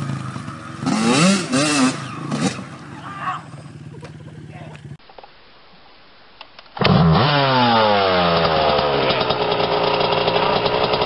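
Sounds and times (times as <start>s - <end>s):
two-stroke dirt bike engine: 0.0s - 5.0s, 6.8s - 11.0s.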